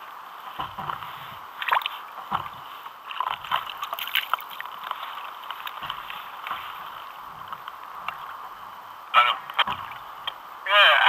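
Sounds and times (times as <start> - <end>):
small waves lapping against hull: 0.1 - 10.6.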